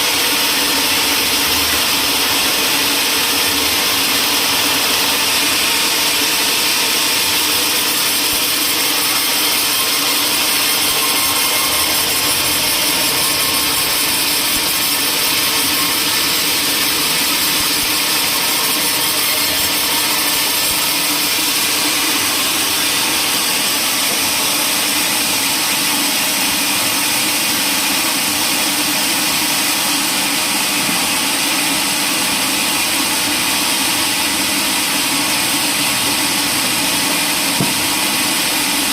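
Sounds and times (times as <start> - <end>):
woodworking machine cutting wood: 0.0 - 38.9.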